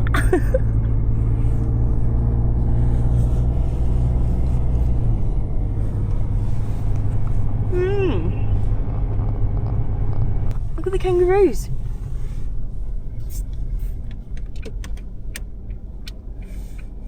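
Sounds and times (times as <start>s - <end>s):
car interior driving drone: 0.0s - 17.0s.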